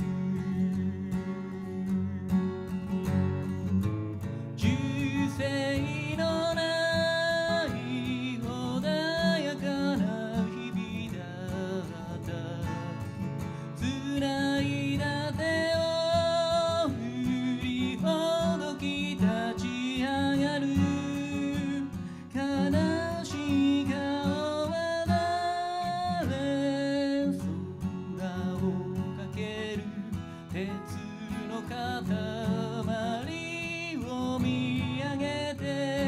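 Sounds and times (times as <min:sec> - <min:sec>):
man singing: 0:00.0 - 0:36.0
strummed acoustic guitar: 0:00.0 - 0:36.0.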